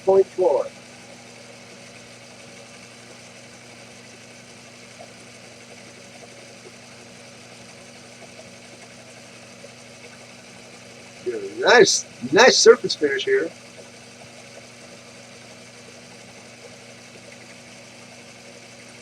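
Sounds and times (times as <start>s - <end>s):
milling machine humming: 0.0s - 19.0s.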